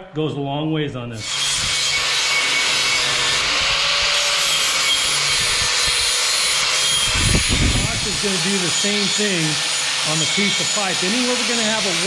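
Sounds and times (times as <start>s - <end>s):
power tool grinding metal: 1.2s - 12.0s.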